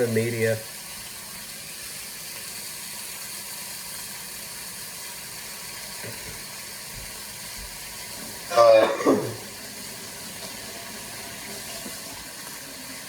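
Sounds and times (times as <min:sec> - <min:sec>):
bacon sizzling in a pan: 0:00.0 - 0:13.0.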